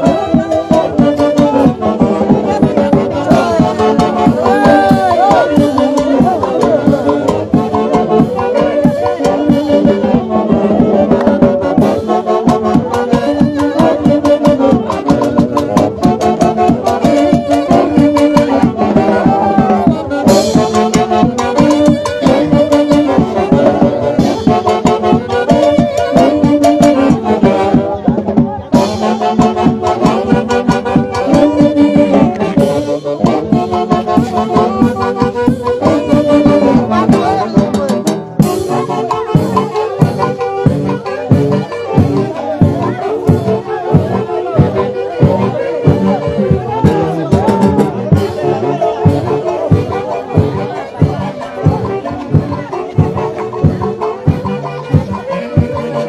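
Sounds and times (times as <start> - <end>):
live band with wind instruments: 0.0 - 56.0.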